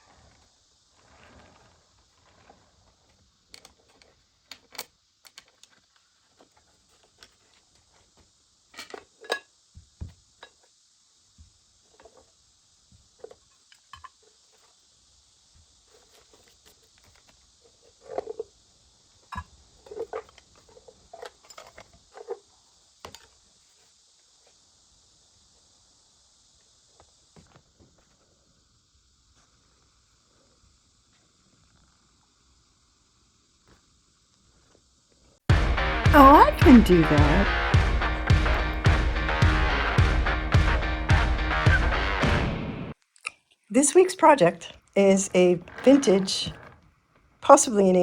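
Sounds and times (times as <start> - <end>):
faint steady hiss: 0.0 - 39.5, 42.9 - 48.0.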